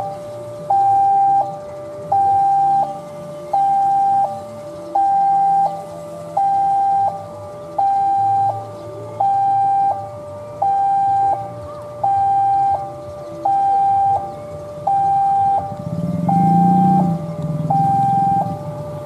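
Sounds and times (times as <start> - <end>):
level-crossing two-tone alarm: 0.0 - 19.0.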